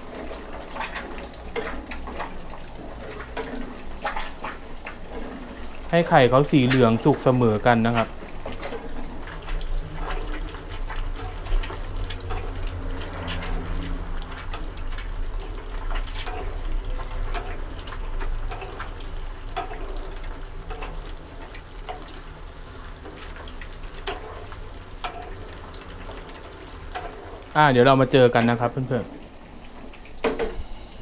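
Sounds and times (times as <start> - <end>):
oil bubbling and sizzling: 0.0 - 31.0
wooden spatula stirring in wok: 0.0 - 31.0.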